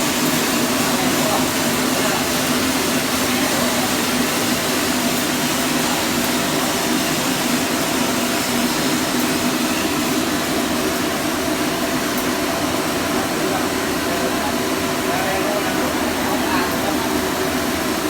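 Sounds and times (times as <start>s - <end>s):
coffee roaster machine humming: 0.0s - 18.0s.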